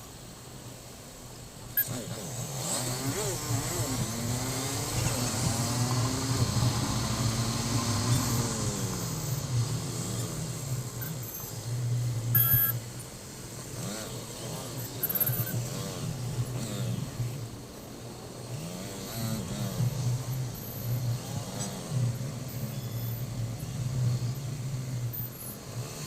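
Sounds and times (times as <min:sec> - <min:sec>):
road traffic: 0:00.0 - 0:26.0
motorcycle engine running: 0:01.8 - 0:26.0.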